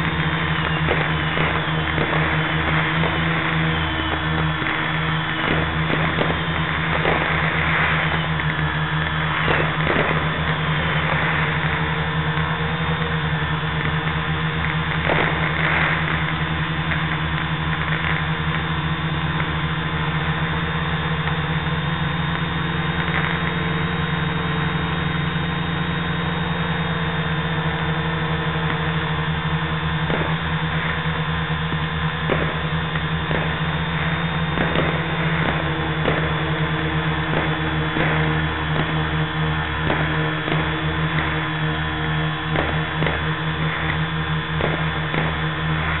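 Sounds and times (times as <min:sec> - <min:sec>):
drone propellers droning: 0:00.0 - 0:46.0.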